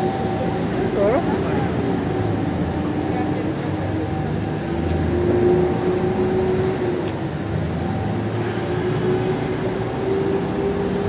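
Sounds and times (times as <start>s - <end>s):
city street traffic: 0.0s - 11.0s
vehicle engine hum: 0.0s - 11.0s.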